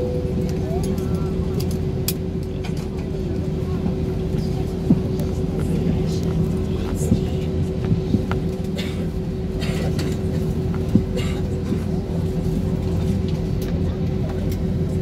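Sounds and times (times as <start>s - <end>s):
aircraft cabin engine hum: 0.0s - 15.0s.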